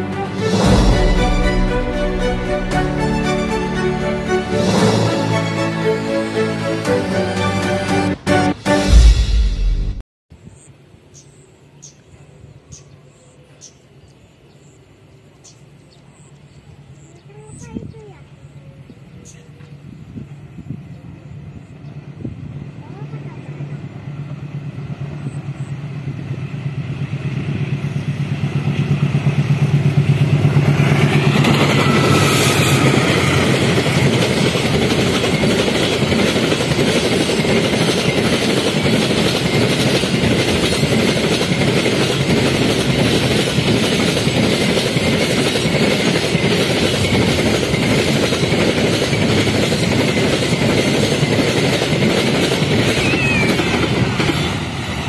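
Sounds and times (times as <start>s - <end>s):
diesel locomotive engine drone: 0.0s - 10.0s, 15.0s - 55.0s.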